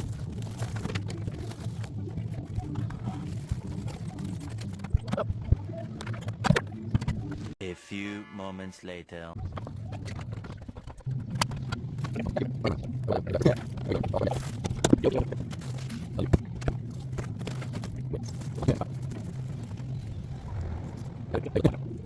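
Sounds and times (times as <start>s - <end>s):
steady low hum: 0.0s - 7.6s, 9.3s - 22.0s.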